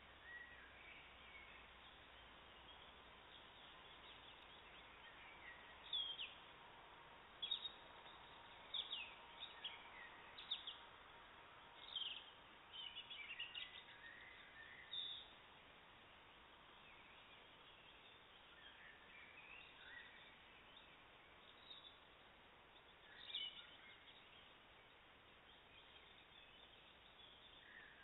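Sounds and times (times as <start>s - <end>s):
birds chirping: 0.0s - 28.0s
faint steady hiss: 0.0s - 28.0s.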